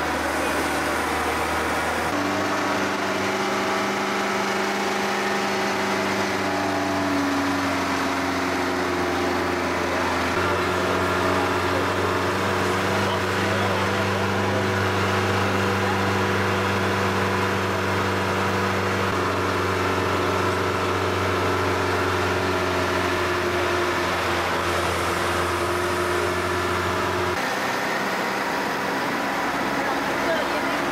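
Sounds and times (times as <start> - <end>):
vehicle engine humming: 0.0 - 30.9.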